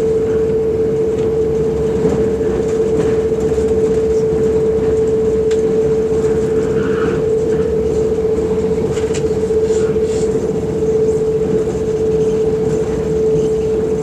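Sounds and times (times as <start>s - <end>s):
constant single-pitched hum: 0.0s - 14.0s
train carriage rumbling on rails: 0.0s - 14.0s.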